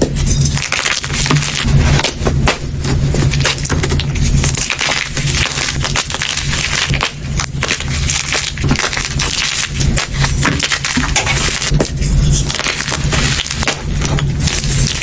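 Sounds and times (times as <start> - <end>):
chalk crunching: 0.0 - 15.0
steady low hum: 0.0 - 15.0.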